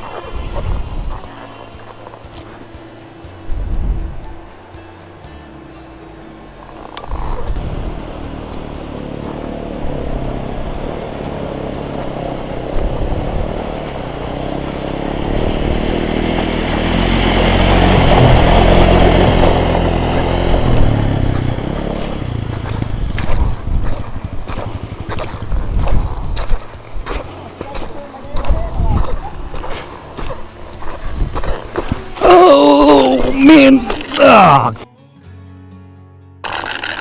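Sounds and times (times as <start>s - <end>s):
motorcycle engine running: 0.0s - 34.8s, 36.5s - 37.0s.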